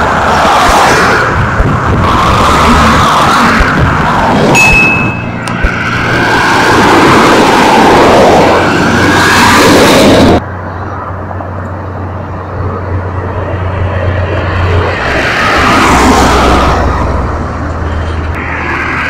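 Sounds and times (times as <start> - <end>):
highway traffic passing: 0.0 - 19.0.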